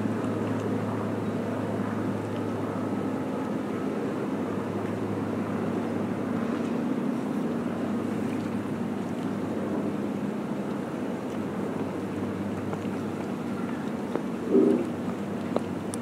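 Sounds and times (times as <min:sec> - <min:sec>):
low engine hum: 0:00.0 - 0:16.0
outdoor noise: 0:00.0 - 0:16.0.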